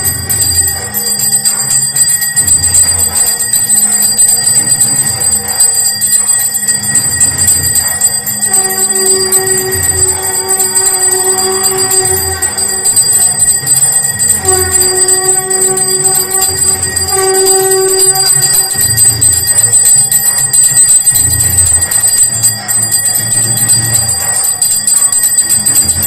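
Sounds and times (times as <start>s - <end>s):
hand bell ringing: 0.0s - 26.0s
low pulsing beat: 0.0s - 26.0s.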